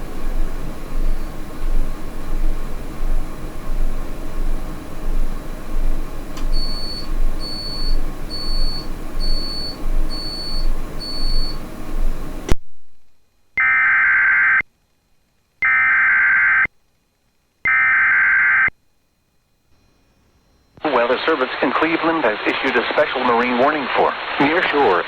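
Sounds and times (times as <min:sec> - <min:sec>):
steady hiss and hum: 0:00.0 - 0:13.8, 0:14.6 - 0:15.7, 0:16.7 - 0:17.7, 0:18.7 - 0:25.0.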